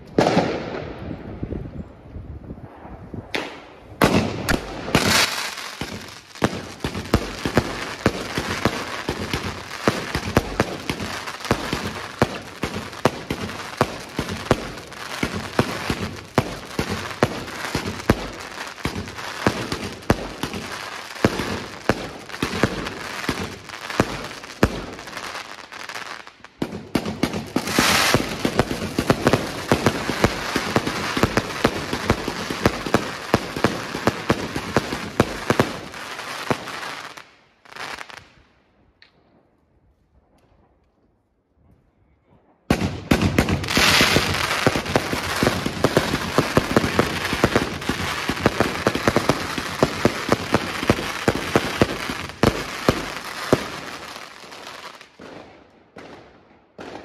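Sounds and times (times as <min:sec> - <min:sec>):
fireworks firing rapidly: 0:00.0 - 0:00.8, 0:02.7 - 0:38.2, 0:42.7 - 0:56.2.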